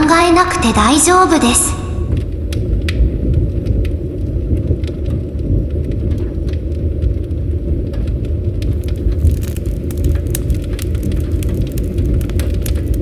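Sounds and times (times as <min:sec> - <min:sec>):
campfire flames rumbling: 0:00.0 - 0:13.0
burning wood crackling and popping: 0:00.1 - 0:13.0.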